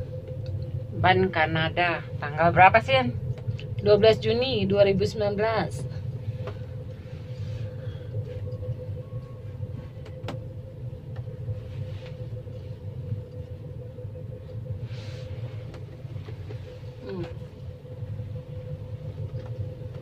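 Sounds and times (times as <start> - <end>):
faint steady hum: 0.0 - 20.0
gondola cabin rumbling: 0.0 - 20.0.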